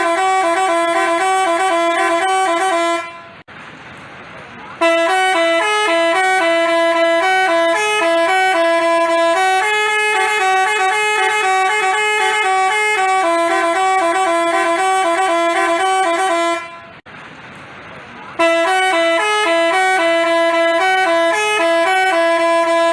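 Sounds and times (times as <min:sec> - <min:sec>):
bus horn playing a melody: 0:00.0 - 0:03.5, 0:04.8 - 0:17.0, 0:18.4 - 0:22.9.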